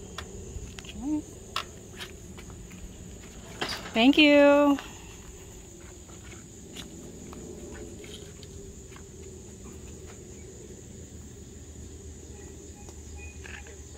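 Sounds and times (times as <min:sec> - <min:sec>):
crickets chirping: 0:00.0 - 0:13.9.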